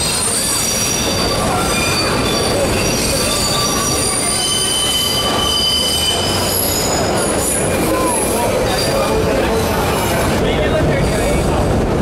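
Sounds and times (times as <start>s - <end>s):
steel wheels squealing on rails: 0.0s - 11.6s
subway train rumble: 0.0s - 12.0s.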